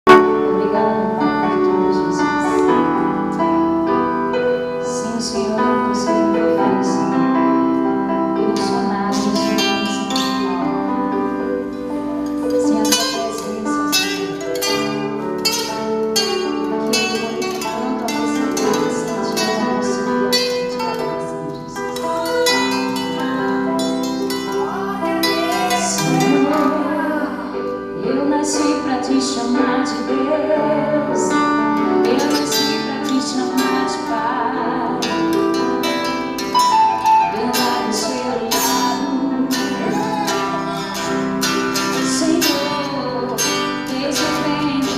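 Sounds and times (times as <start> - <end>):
plucked harp-like chords: 0.1 - 44.9.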